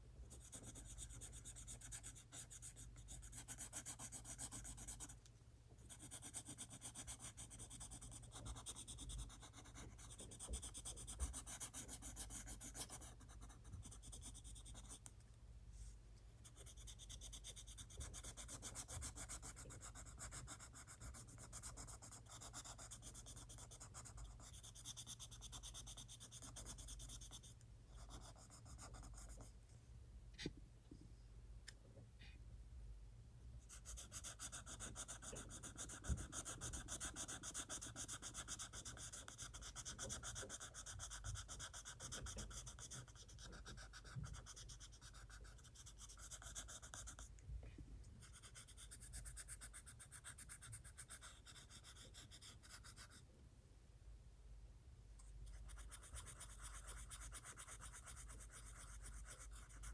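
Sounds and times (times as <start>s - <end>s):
pencil scratching on paper: 0.3s - 5.2s, 5.9s - 15.1s, 15.8s - 29.5s, 33.7s - 47.3s, 48.2s - 53.2s, 55.4s - 59.9s.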